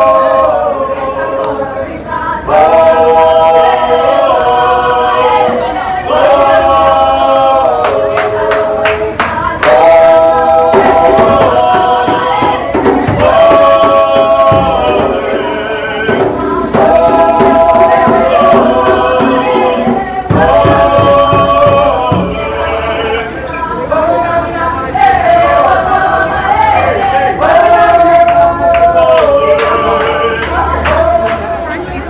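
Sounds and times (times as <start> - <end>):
group singing in harmony: 0.0 - 32.0.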